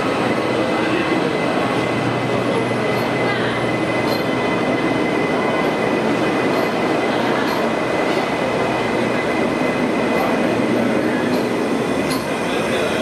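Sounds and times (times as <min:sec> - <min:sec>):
high-pitched train whine: 0:00.0 - 0:13.0
train wheels rumbling on rail: 0:00.0 - 0:13.0.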